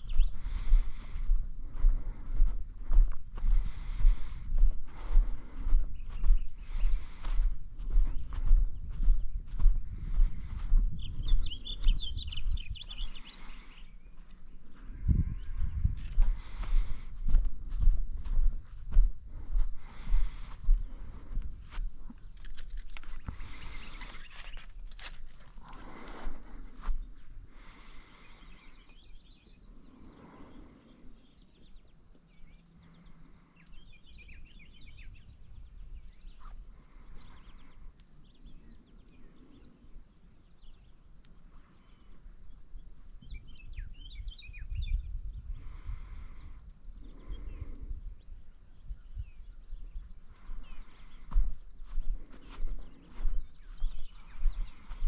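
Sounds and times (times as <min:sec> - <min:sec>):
chorus of crickets: 0:00.0 - 0:55.0.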